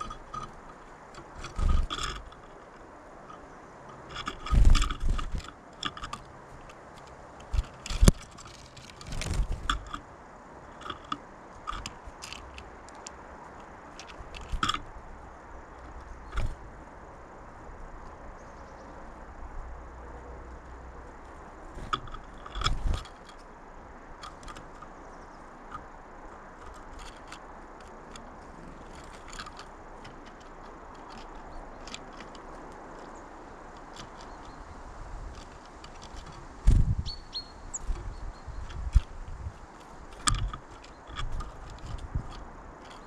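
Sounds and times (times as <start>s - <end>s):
birds thumping on feeder: 0.0s - 17.0s, 21.0s - 43.0s
birds pecking at seed: 0.0s - 43.0s.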